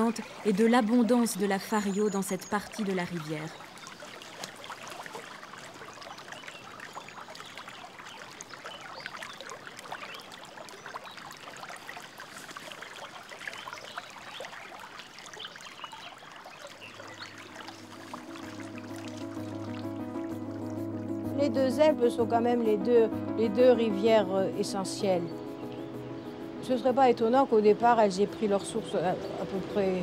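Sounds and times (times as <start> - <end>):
river water trickling: 0.0 - 30.0.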